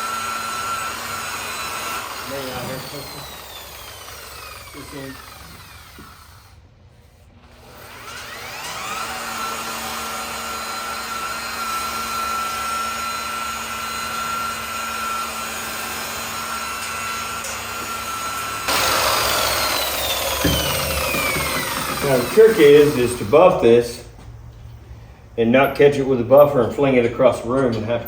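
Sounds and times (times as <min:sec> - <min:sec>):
electric buffer motor whining: 0:00.0 - 0:06.7, 0:07.4 - 0:23.9.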